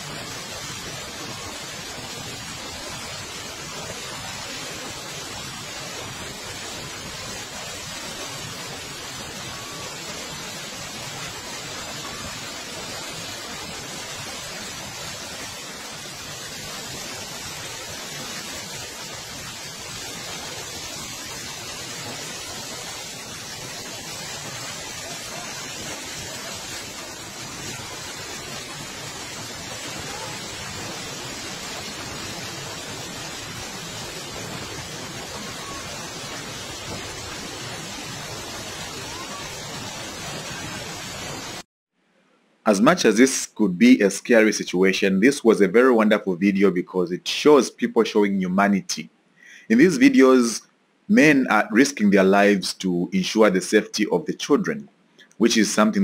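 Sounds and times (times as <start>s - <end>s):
flood torrent rushing: 0.0s - 41.7s, 42.7s - 56.0s.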